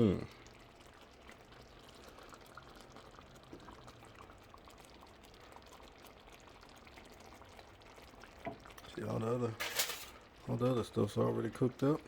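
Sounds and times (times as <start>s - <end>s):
food simmering in a pot: 0.0s - 12.0s.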